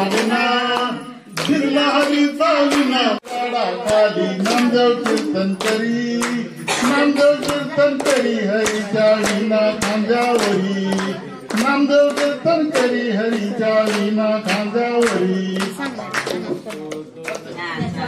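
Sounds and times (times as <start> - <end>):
man singing into a microphone: 0.0 - 17.2
group clapping in time: 0.0 - 17.7.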